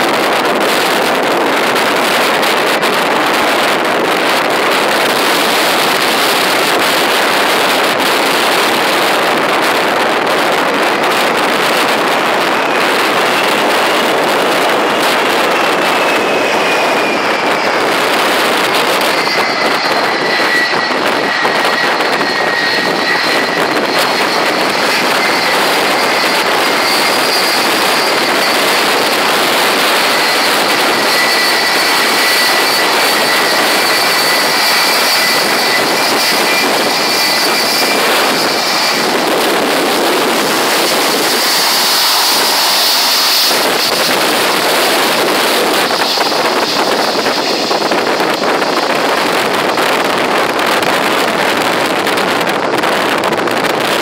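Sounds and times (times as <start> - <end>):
jet engines taxiing: 0.0 - 54.0
high whining tones: 3.3 - 51.2.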